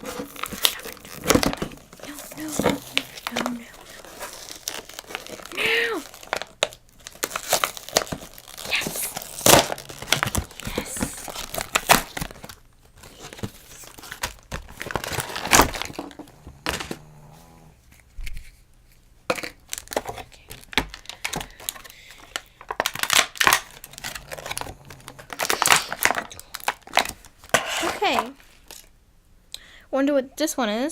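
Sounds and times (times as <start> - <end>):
packaging crinkling and tearing: 0.0 - 28.9.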